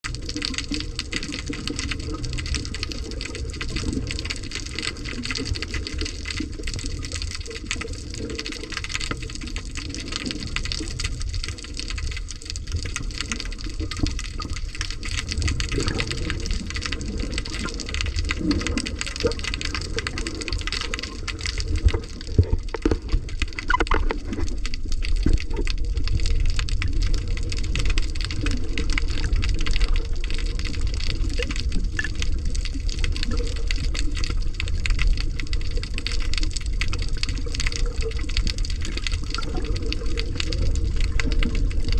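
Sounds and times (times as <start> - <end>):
rushing sloshing water: 0.1 - 41.9.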